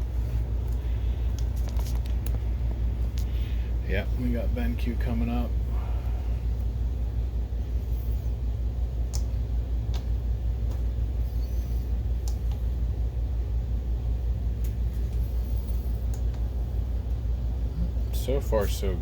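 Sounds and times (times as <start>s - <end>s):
projector cooling fans rumbling: 0.0s - 19.0s.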